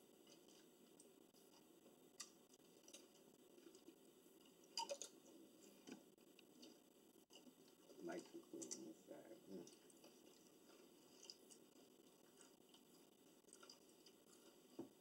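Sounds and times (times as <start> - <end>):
soft eating clicks and chewing: 0.0 - 15.0.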